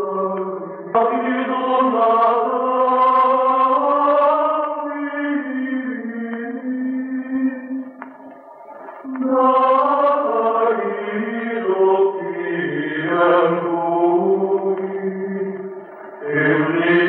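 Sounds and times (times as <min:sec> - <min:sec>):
chanting in long held notes: 0:00.0 - 0:17.0.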